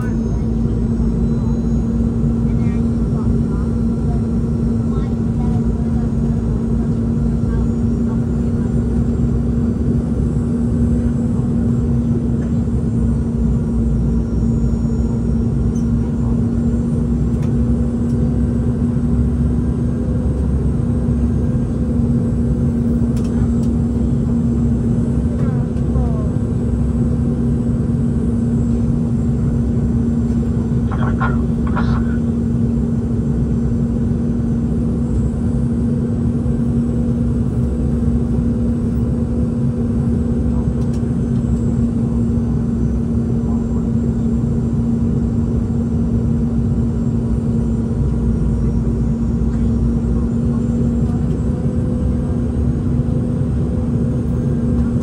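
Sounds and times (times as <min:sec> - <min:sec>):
airplane cabin engine drone: 0:00.0 - 0:55.0
constant low hum: 0:00.0 - 0:55.0.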